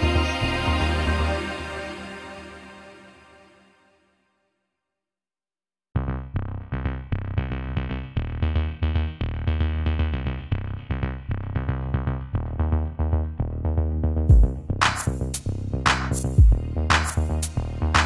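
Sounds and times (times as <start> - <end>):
electronic music with heavy bass: 0.0 - 2.9, 6.0 - 18.0.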